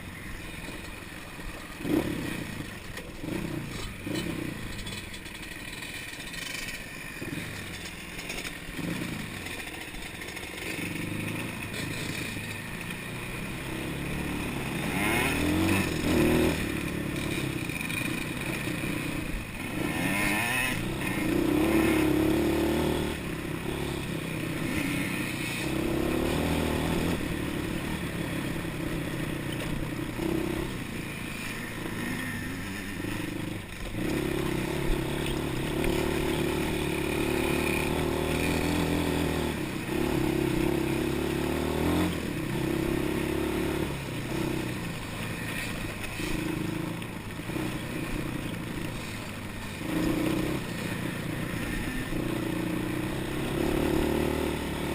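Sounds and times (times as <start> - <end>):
quad bike engine revving: 0.0 - 54.9.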